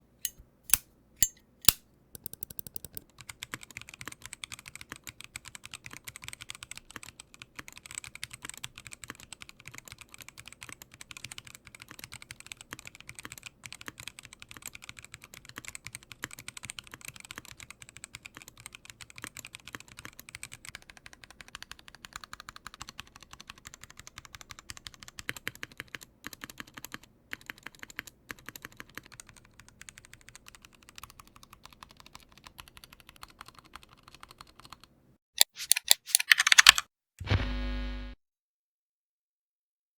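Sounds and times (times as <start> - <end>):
loud keyboard clicks: 1.7 - 36.8
mechanical keyboard typing: 1.7 - 36.8.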